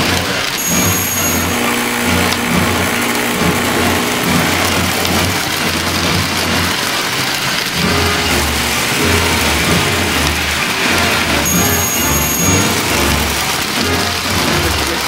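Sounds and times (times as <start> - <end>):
metal wheels clattering on rails: 0.0 - 15.0
motor hum: 0.0 - 15.0.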